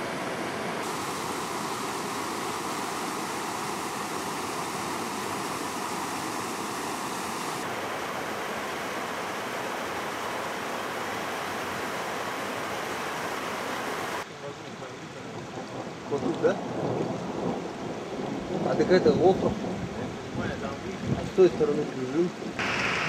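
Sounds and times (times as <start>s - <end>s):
creek rushing over boulders: 0.0s - 16.5s, 20.0s - 23.0s.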